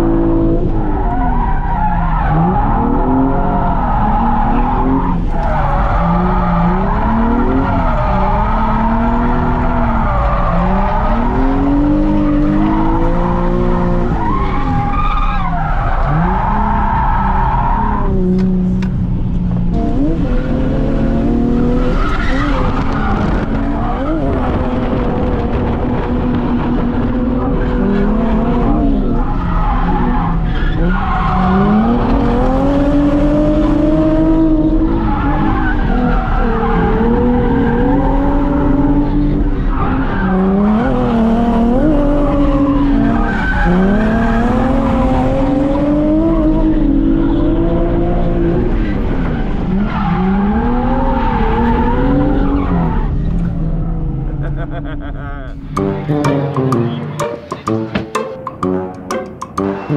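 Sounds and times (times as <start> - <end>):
car engines revving hard: 0.0 - 57.0
tyres squealing and skidding: 0.7 - 18.5, 21.5 - 25.3, 26.3 - 56.1.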